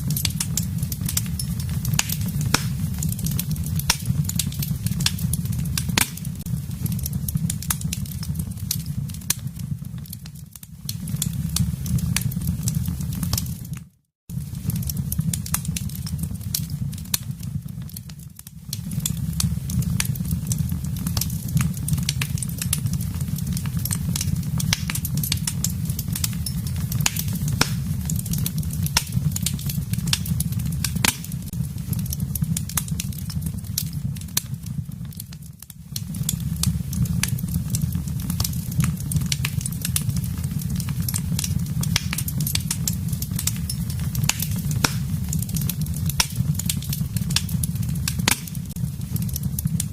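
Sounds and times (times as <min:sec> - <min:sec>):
low rumble of fire: 0:00.0 - 0:49.9
wood fire crackling: 0:00.0 - 0:49.9.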